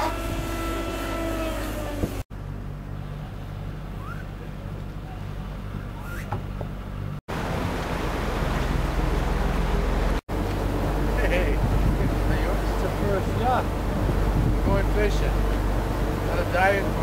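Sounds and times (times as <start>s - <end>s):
boat engine humming: 0.0s - 17.0s
churning wake water: 0.0s - 17.0s.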